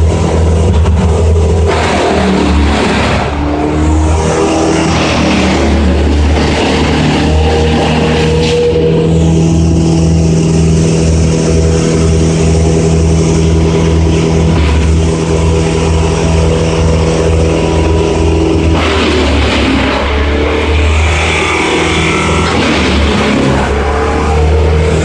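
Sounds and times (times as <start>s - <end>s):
engine running with low rumble: 0.0s - 25.0s.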